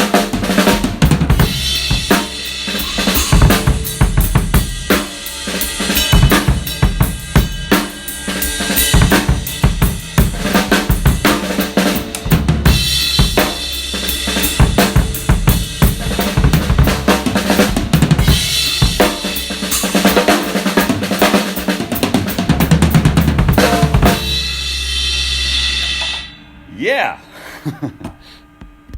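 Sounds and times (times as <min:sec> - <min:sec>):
cymbal ringing: 0:00.0 - 0:21.4, 0:23.6 - 0:27.8
drum kit playing: 0:00.0 - 0:27.2.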